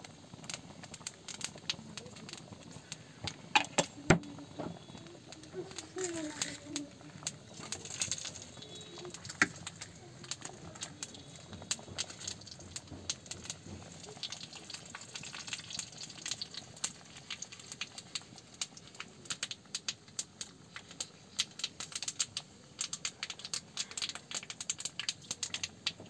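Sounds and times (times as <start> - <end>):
hot oil crackling and popping: 0.0 - 26.0.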